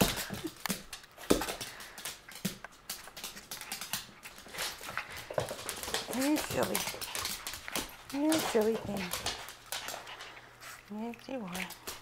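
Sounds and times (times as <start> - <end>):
dog claws clicking on floor: 0.0 - 12.0.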